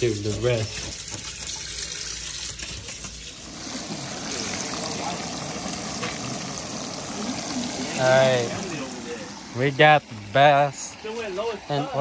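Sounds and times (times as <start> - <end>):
tap water running into sink: 0.0 - 10.2
oil sizzling: 0.0 - 12.0.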